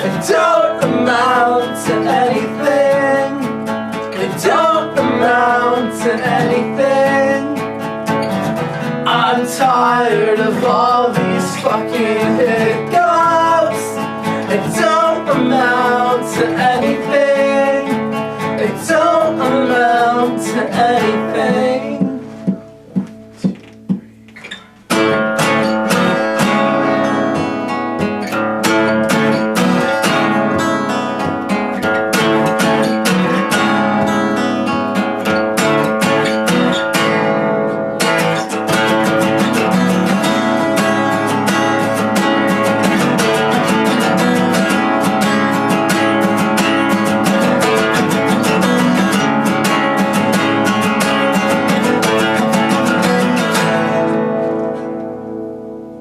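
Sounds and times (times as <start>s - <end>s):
strummed guitar: 0.0s - 56.0s.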